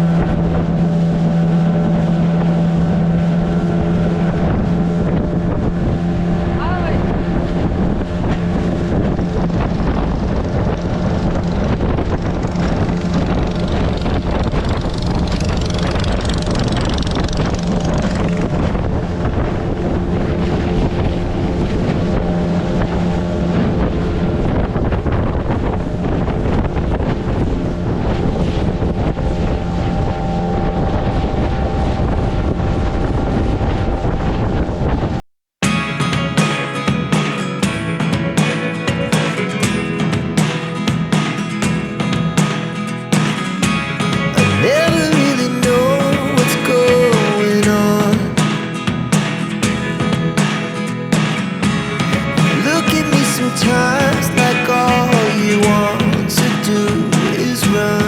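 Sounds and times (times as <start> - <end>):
boat motor humming: 0.0 - 58.0
rushing noise: 0.0 - 58.0
wind buffeting microphone: 0.0 - 58.0.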